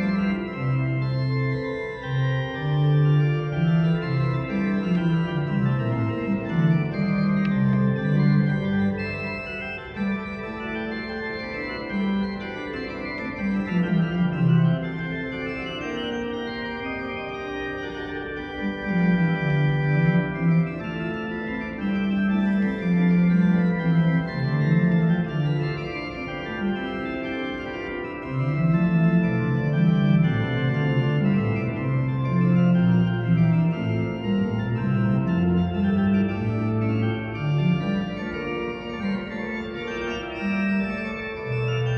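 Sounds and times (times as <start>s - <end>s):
pipe organ playing chords: 0.0s - 41.9s.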